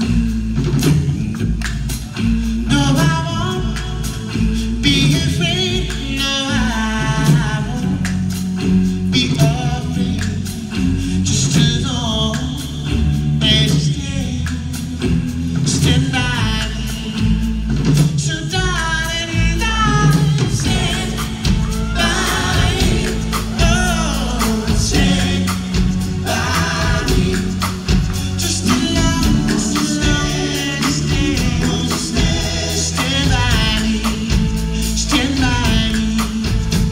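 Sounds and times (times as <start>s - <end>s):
bass and guitar: 0.0s - 36.9s
close-harmony backing vocals: 0.0s - 36.9s
man singing lead melody: 2.2s - 36.9s.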